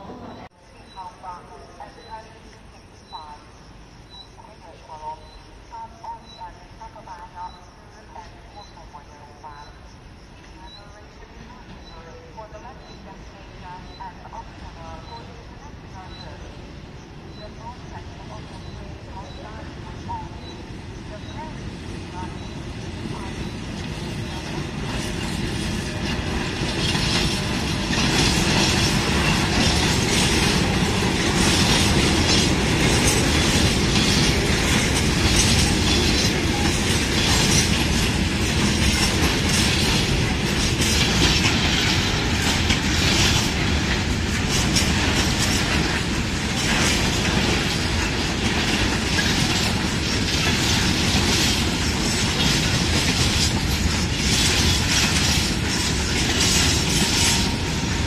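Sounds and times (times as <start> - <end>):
train wheels rumbling on rails: 10.4 - 58.0.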